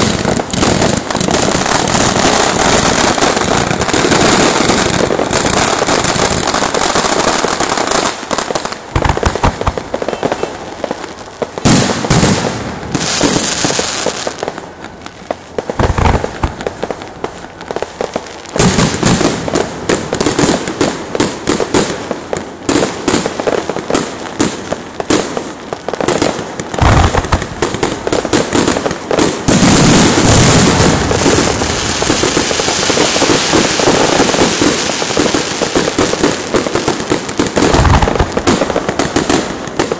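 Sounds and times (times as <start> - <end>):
firecrackers cracking: 0.0 - 39.9
fireworks booming bursts: 0.0 - 39.9.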